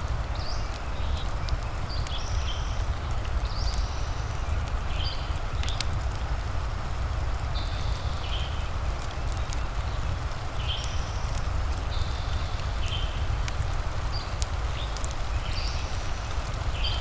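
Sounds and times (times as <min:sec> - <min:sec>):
fireplace crackling: 0:00.0 - 0:17.0
steady rain: 0:00.0 - 0:17.0.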